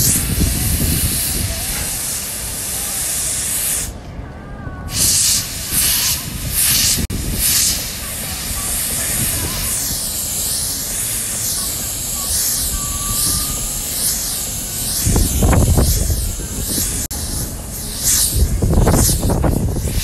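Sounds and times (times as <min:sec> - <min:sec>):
compressed air hissing: 0:00.0 - 0:04.0, 0:04.9 - 0:20.0.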